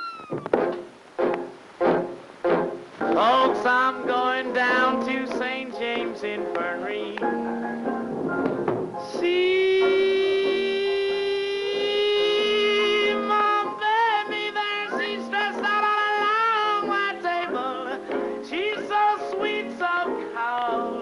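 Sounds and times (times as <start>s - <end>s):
jazz band backing: 0.0s - 21.0s.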